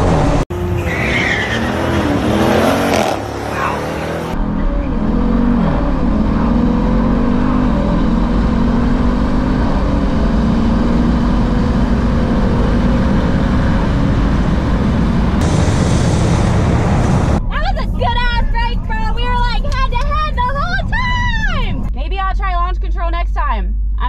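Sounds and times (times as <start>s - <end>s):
car engine at full throttle: 0.0s - 20.1s.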